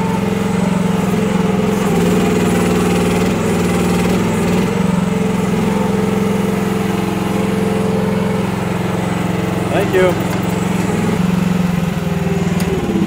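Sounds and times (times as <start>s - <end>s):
mini excavator engine running: 0.0s - 13.0s.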